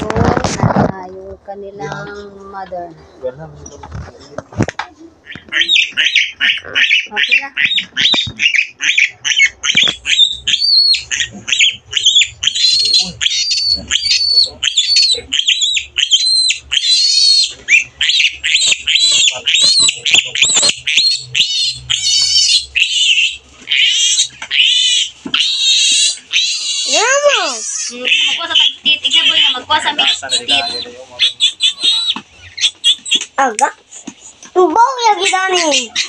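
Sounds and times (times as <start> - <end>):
piglet squealing: 5.2 - 33.5, 35.0 - 36.0.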